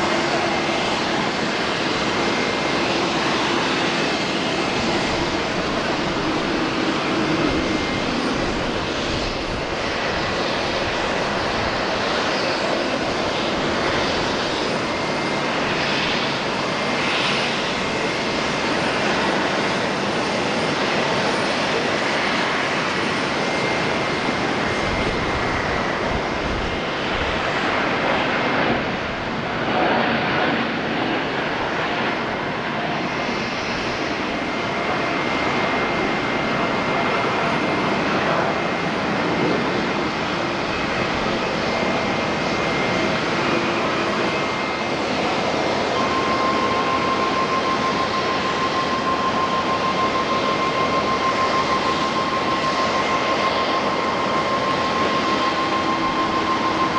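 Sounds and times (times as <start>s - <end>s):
jet engines running: 0.0s - 56.9s.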